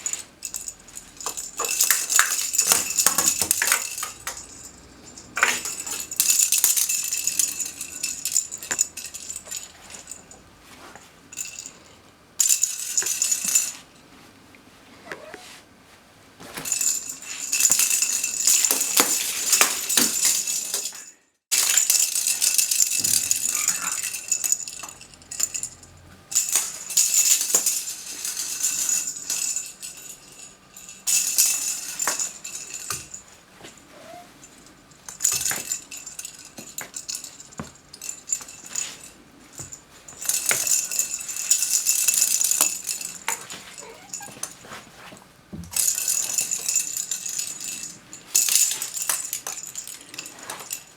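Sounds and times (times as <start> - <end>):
rattle ball rattling: 0.0 - 14.0, 16.6 - 50.9.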